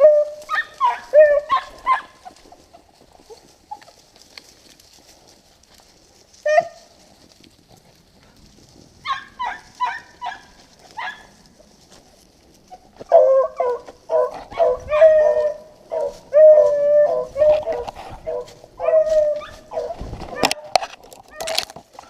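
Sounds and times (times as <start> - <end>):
dogs baying and yelping: 0.0 - 4.3, 6.2 - 7.0, 9.0 - 22.0.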